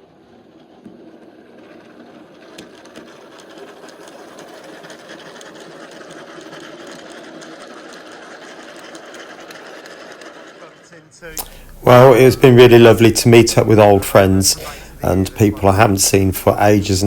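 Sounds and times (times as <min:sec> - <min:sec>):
small electric motor whirring: 0:00.0 - 0:17.0
wheels clicking on track: 0:00.0 - 0:17.0.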